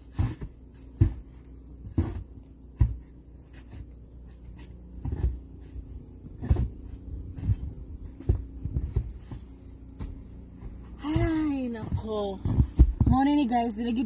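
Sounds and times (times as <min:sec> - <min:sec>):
dull thumps and scuffs: 0:00.0 - 0:03.8, 0:04.4 - 0:13.4
faint steady hum: 0:00.0 - 0:14.0.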